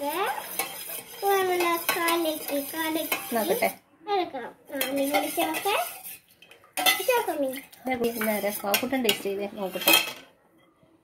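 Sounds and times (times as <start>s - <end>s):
spoon stirring in metal mug: 0.0s - 3.8s, 4.8s - 10.2s.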